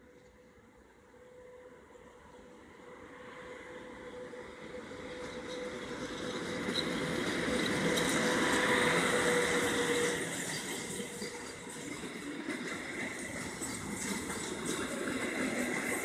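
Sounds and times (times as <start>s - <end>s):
locomotive hum: 0.0s - 16.0s
train wheels rumbling on rails: 0.0s - 16.0s.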